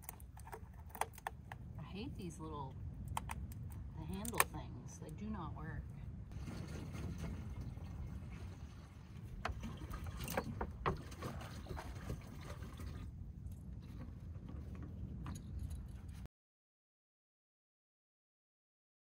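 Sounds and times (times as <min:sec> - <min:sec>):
wind rumble on microphone: 0:00.0 - 0:16.3.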